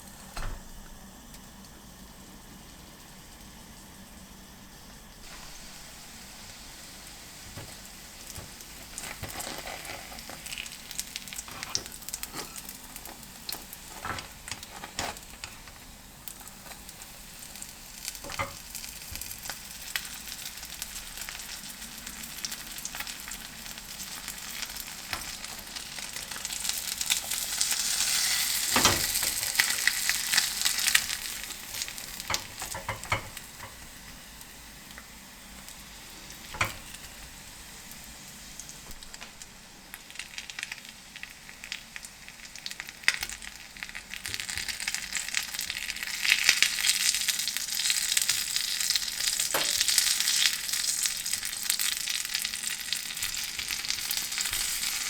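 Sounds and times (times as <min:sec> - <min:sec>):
food sizzling in a frying pan: 0:00.0 - 0:55.0.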